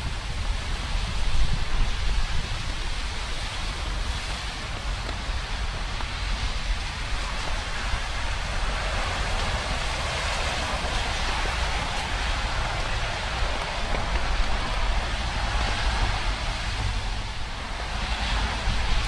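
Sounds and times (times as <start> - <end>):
low rumble: 0.0 - 19.0
steady rain falling: 0.0 - 19.0.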